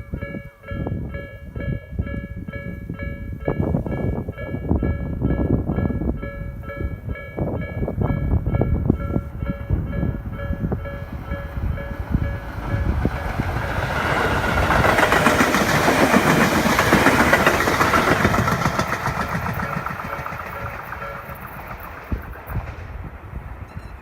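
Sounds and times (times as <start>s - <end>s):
level-crossing warning bell: 0.0s - 22.2s
train rumble and wheel clatter: 0.0s - 24.0s.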